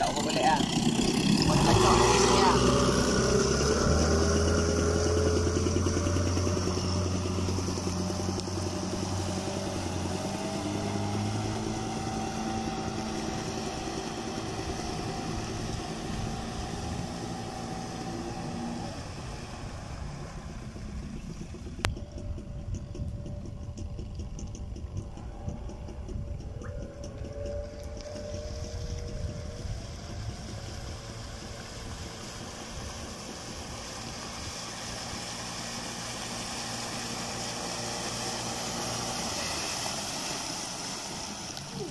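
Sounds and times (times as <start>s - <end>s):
outboard motor running: 0.0s - 41.9s
wind and water wash: 0.0s - 41.9s.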